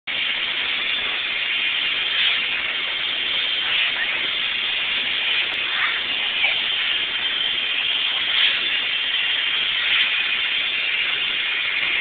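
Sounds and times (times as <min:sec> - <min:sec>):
wrapping machine running: 0:00.1 - 0:12.0.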